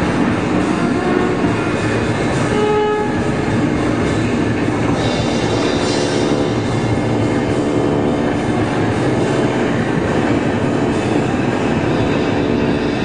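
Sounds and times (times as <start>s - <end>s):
electronic noise drone: 0.0s - 13.0s.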